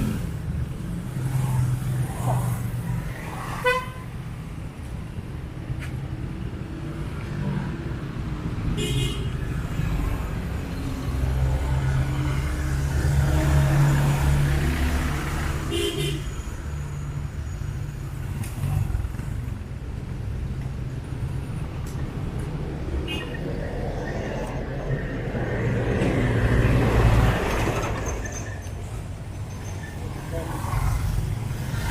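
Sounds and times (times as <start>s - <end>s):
cars passing: 0.0s - 31.9s.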